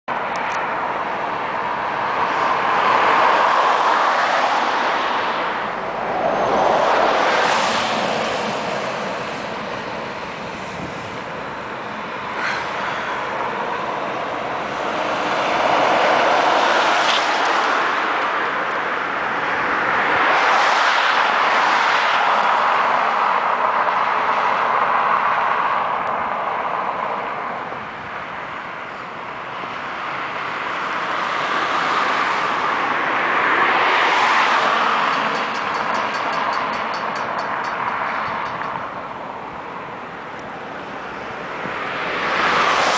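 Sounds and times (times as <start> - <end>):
road traffic rush: 0.0 - 42.9.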